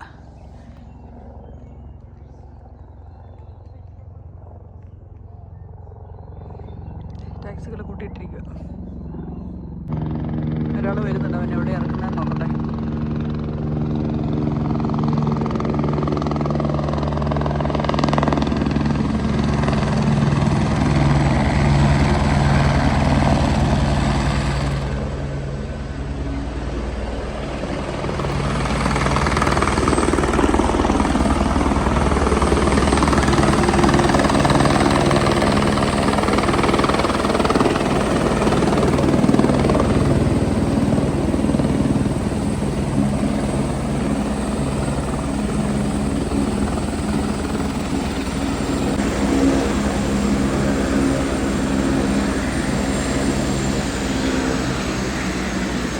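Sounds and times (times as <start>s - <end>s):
helicopter rotor beating: 0.0s - 55.9s.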